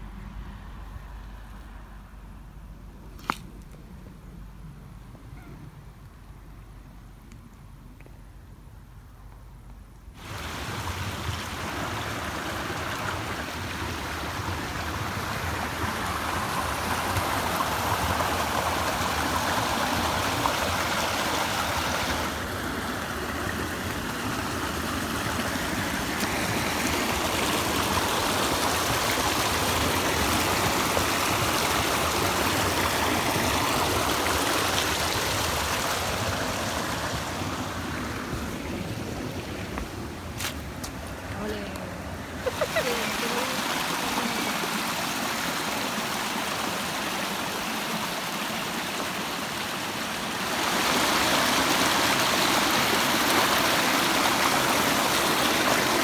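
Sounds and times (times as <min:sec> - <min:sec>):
mountain stream flowing: 0:10.2 - 0:56.0.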